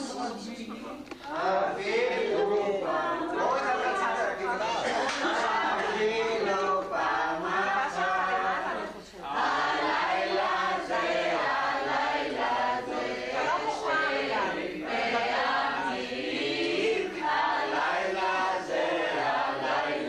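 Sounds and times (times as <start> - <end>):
group of people singing: 1.2 - 20.0.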